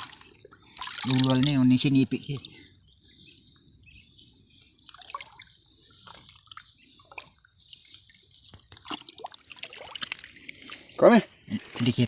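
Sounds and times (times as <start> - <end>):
muddy water dripping and splashing: 0.0 - 12.0.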